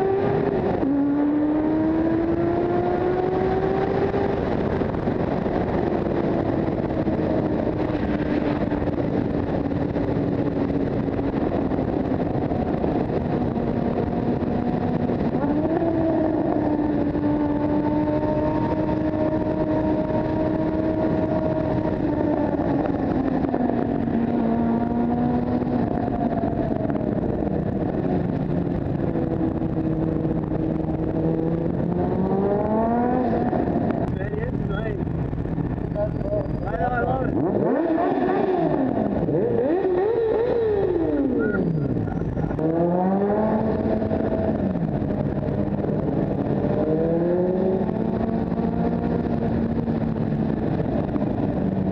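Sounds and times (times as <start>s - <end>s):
motorcycle engine: 0.0s - 51.9s
wind and road noise: 0.0s - 51.9s.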